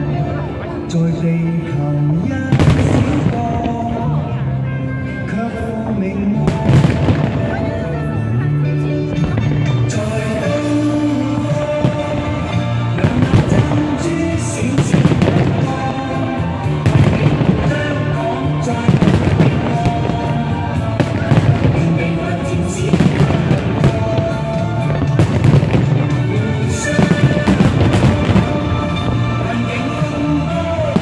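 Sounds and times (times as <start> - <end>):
music playing: 0.0 - 31.0
fireworks bangs and crackle: 2.2 - 4.6, 5.3 - 8.3, 9.1 - 31.0.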